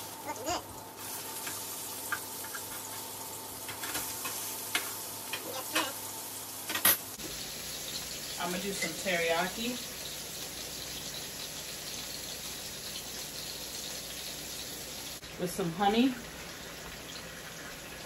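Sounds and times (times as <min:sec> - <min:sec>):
fish sizzling in a pan: 0:00.0 - 0:18.0.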